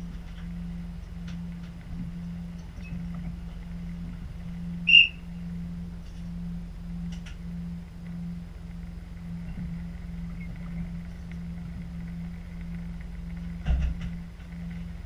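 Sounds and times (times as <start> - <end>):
train engine idling: 0.0 - 15.0.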